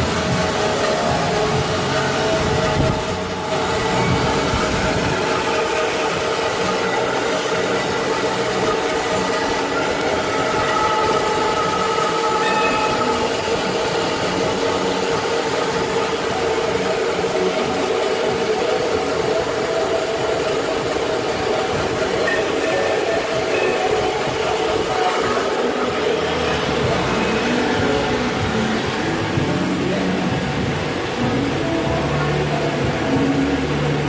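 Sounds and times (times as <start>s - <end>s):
band saw machine drone: 0.0s - 34.0s
whining tones: 0.0s - 34.0s.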